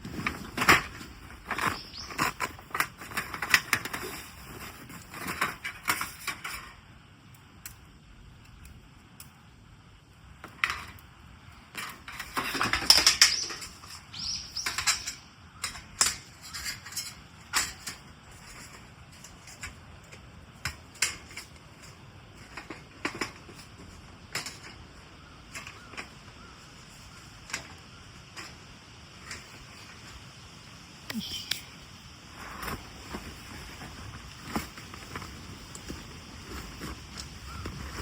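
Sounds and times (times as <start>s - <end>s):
rustling and clicking of objects handled: 0.0s - 7.8s, 10.4s - 30.4s, 32.4s - 38.0s.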